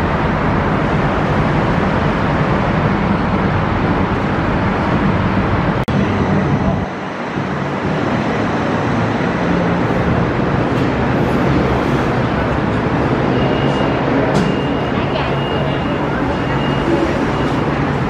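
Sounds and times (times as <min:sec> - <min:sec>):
train and station hum: 0:00.0 - 0:18.0.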